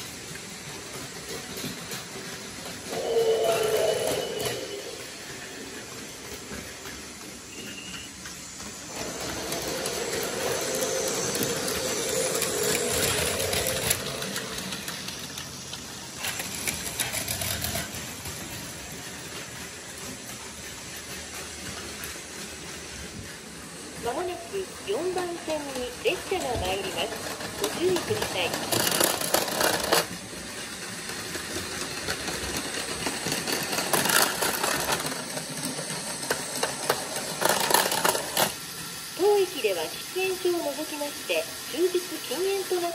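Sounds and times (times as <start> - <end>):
toy train motors whirring: 0.0 - 42.9
toy train wheels rattling: 0.0 - 42.9.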